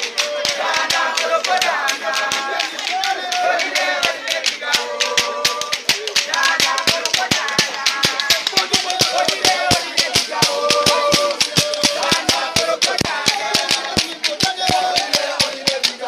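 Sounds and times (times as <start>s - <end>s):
fast percussive strikes: 0.0s - 16.0s
group singing a chant: 0.0s - 16.0s.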